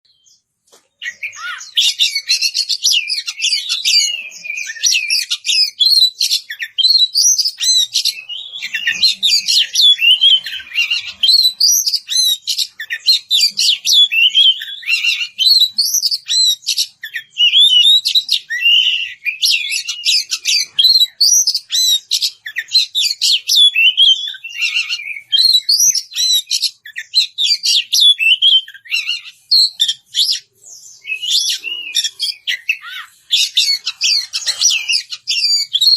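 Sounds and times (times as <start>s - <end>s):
bird singing loudly: 1.0s - 35.9s.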